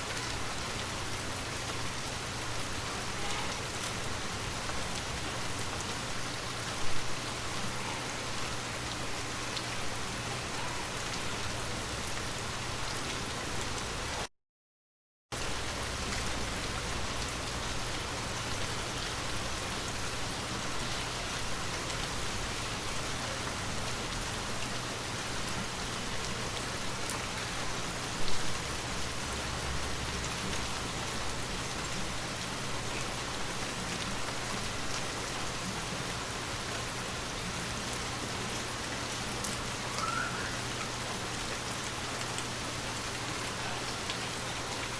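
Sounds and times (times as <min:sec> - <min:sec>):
steady rain falling: 0:00.0 - 0:14.3, 0:15.3 - 0:44.9.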